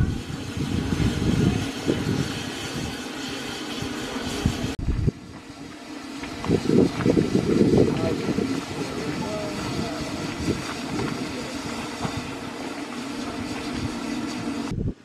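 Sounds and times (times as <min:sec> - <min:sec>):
steam hissing: 0:00.0 - 0:14.7
steam locomotive rumbling: 0:00.0 - 0:15.0.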